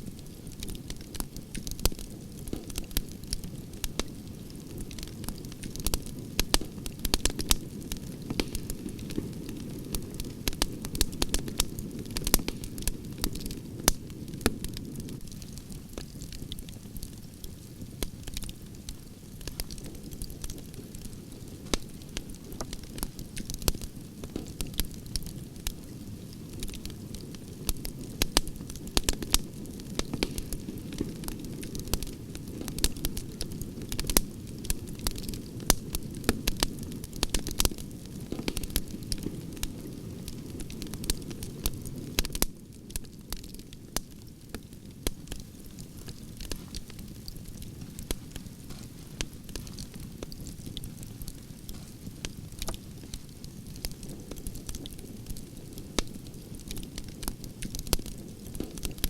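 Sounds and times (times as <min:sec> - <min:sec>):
campfire flames rushing: 0:00.0 - 0:59.0
wood crackling and popping: 0:00.0 - 0:59.0.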